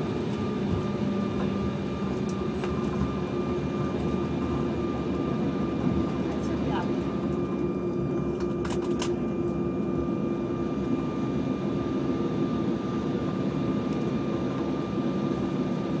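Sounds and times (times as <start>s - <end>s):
aircraft cabin rumble: 0.0s - 16.0s
jet engine hum: 0.0s - 16.0s.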